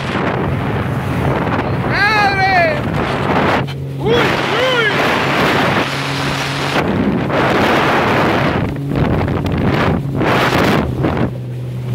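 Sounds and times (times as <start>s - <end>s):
boat engine hum: 0.0s - 11.9s
water rushing past hull: 0.0s - 11.9s
wind buffeting microphone: 0.0s - 11.9s.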